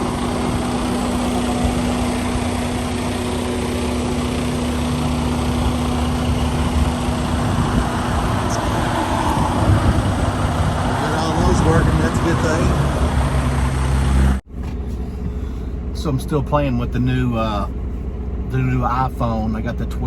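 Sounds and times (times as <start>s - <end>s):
constant low hum: 0.0s - 20.0s
truck diesel engine idling: 0.0s - 20.0s.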